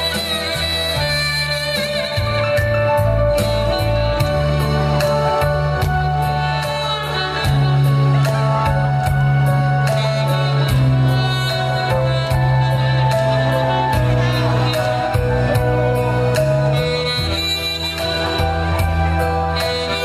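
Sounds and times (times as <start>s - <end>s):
bass line: 0.0s - 20.0s
saxophone slow melody: 0.0s - 20.0s.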